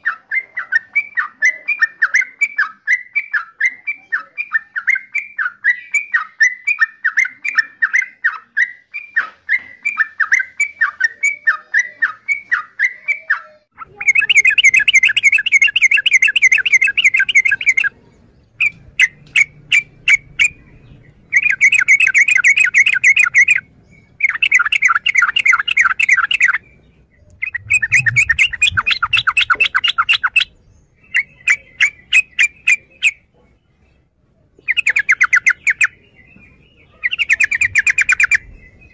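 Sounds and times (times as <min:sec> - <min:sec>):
bird calling with chattering trills: 0:00.0 - 0:33.3, 0:34.6 - 0:38.9.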